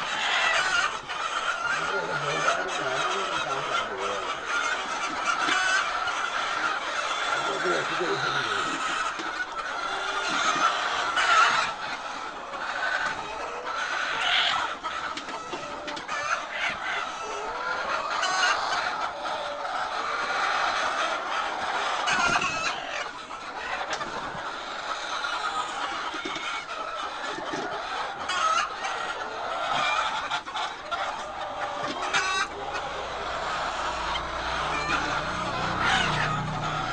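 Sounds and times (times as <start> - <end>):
hens clucking: 0.0 - 36.9.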